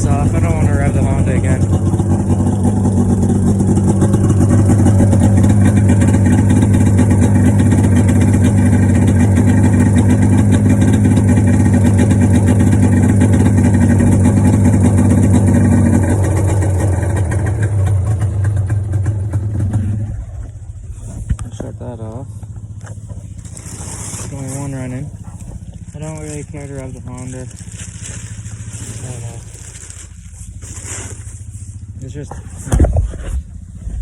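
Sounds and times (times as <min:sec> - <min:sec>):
quad engines idling: 0:00.0 - 0:34.0.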